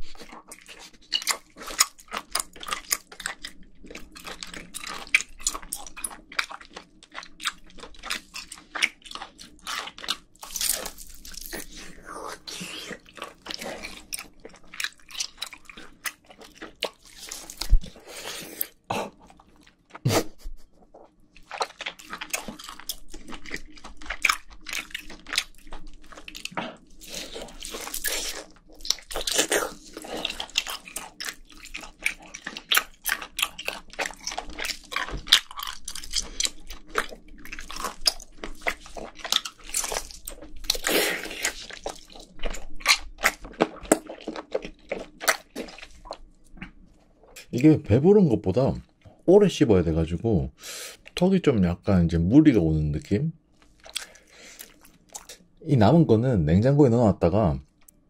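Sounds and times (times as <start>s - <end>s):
wet chewing with clicks: 0.0s - 20.0s, 20.8s - 47.7s, 53.0s - 55.6s, 57.6s - 58.0s.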